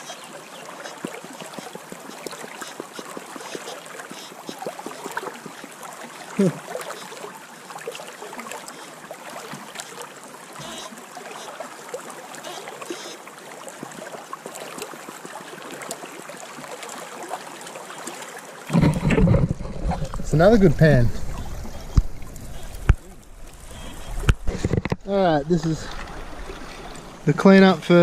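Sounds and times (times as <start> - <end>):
creek water running and lapping: 0.0 - 28.0.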